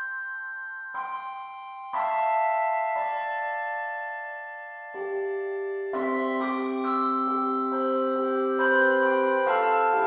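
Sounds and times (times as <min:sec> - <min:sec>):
handbells ringing: 0:00.0 - 0:10.0.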